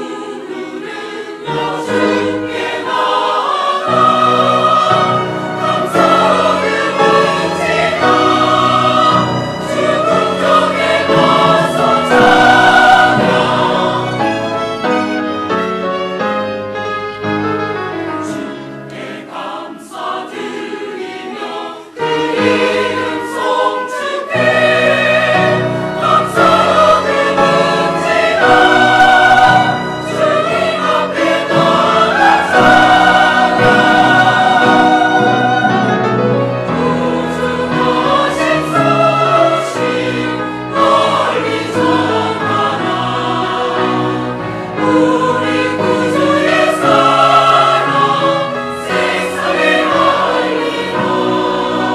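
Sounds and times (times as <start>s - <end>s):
church choir singing: 0.0s - 51.9s.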